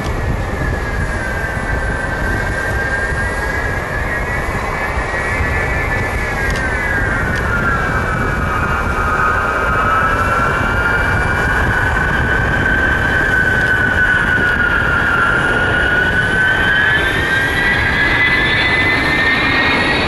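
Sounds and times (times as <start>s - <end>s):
jet engines whining: 0.0s - 20.0s
steady jet rumble: 0.0s - 20.0s.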